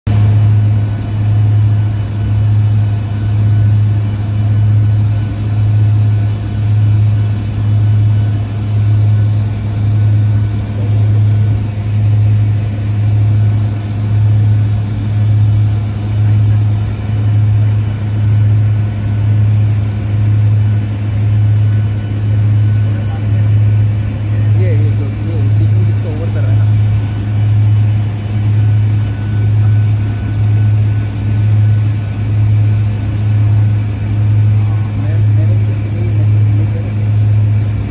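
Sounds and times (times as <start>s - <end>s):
aircraft engines droning in cabin: 0.1s - 37.9s.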